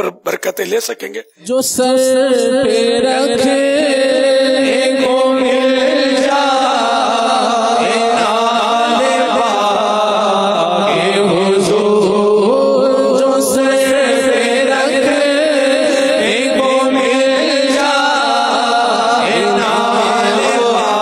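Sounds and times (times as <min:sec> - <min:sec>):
men chanting devotional poem: 0:01.2 - 0:21.0.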